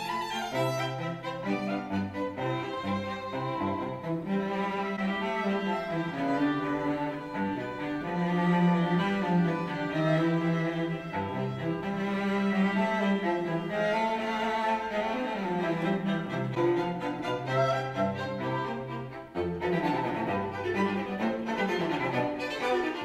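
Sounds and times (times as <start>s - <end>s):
classical string music: 0.0s - 23.0s.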